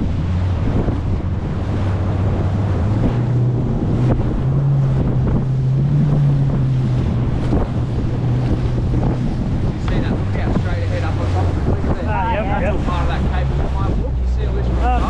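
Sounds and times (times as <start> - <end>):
outboard motor running: 0.0 - 15.0
wind buffeting microphone: 0.0 - 15.0.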